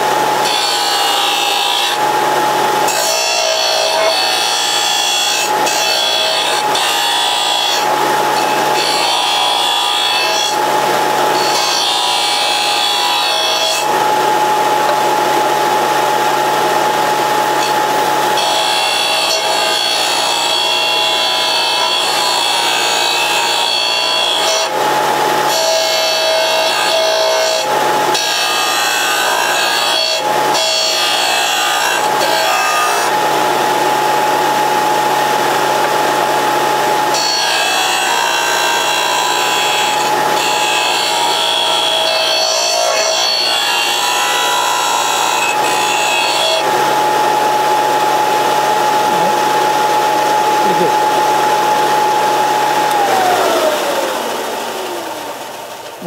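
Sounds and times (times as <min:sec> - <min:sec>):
metal grinding rasp: 0:00.0 - 0:15.1, 0:17.2 - 0:34.4, 0:35.2 - 0:53.4
disc sander whining: 0:00.0 - 0:56.0.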